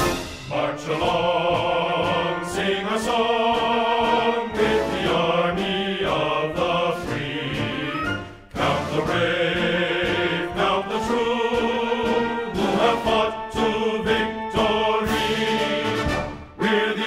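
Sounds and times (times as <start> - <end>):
choir singing sustained chant: 0.0 - 17.0.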